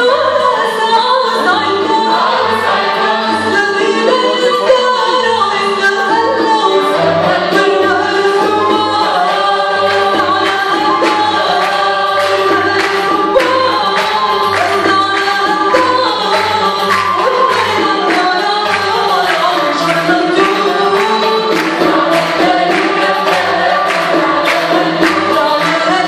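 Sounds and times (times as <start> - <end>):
violins: 0.0 - 26.0
women's choir singing: 0.0 - 26.0
steady percussion: 0.4 - 26.0.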